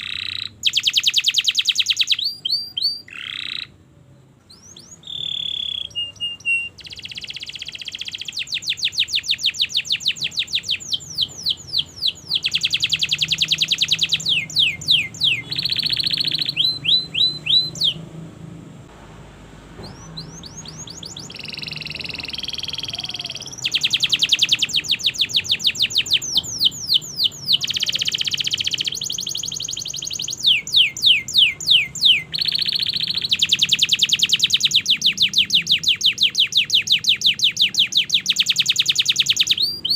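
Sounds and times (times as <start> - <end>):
canary singing trills: 0.0 - 18.2, 19.8 - 39.9.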